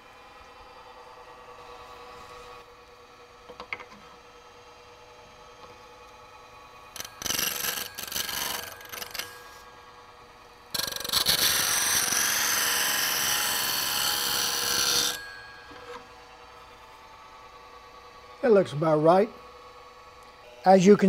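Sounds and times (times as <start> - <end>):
faint grinder hum: 0.0 - 21.0
grinder wheel grinding steel: 0.0 - 21.0.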